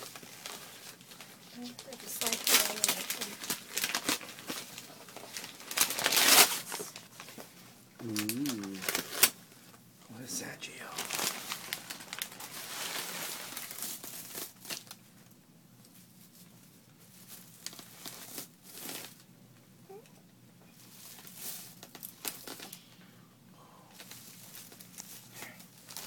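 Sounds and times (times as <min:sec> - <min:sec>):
paper bag crinkling and rustling: 0:00.0 - 0:09.4, 0:10.9 - 0:15.3, 0:15.9 - 0:19.3, 0:20.8 - 0:22.7, 0:24.0 - 0:26.0.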